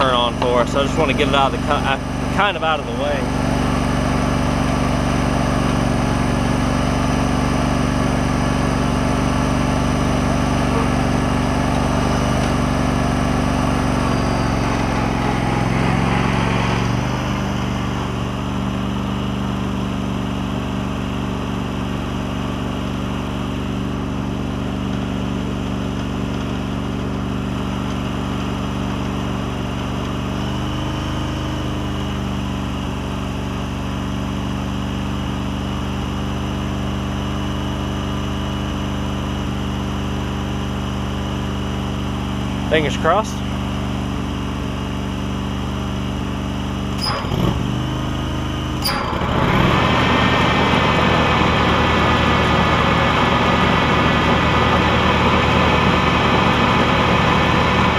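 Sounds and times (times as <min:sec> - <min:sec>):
lawn tractor engine running: 0:00.0 - 0:57.9.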